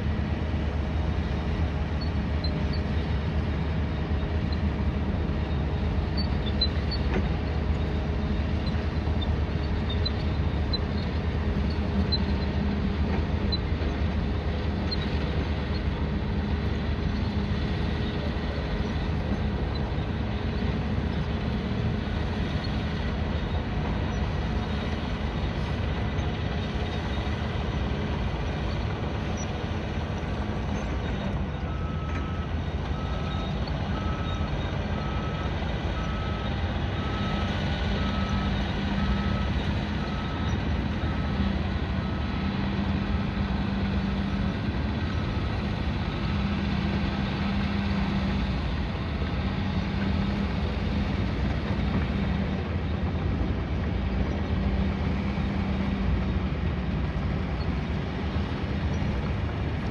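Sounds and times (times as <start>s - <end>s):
heavy engine running: 0.0s - 59.9s.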